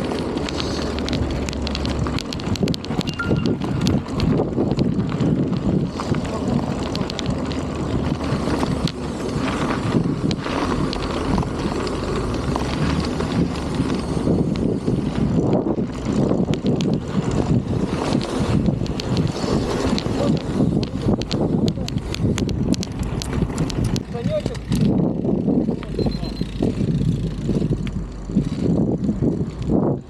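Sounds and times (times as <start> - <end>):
faint crackling from bicycle ride: 0.0 - 30.0
wind buffeting microphone: 0.0 - 30.0.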